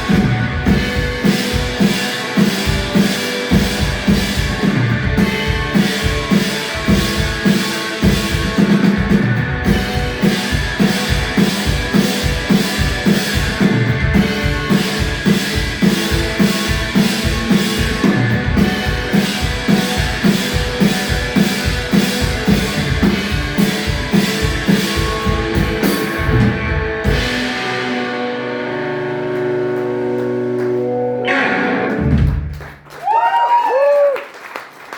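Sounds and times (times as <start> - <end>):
driving drum beat: 0.0 - 28.4, 31.9 - 32.8
electric guitar: 0.0 - 34.1.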